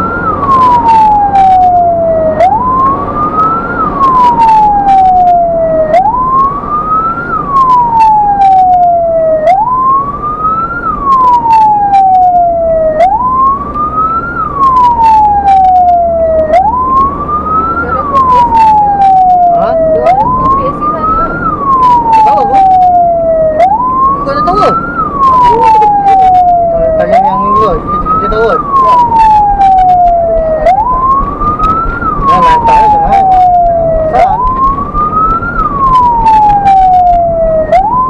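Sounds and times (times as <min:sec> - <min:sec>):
ambulance siren wailing: 0:00.0 - 0:38.0.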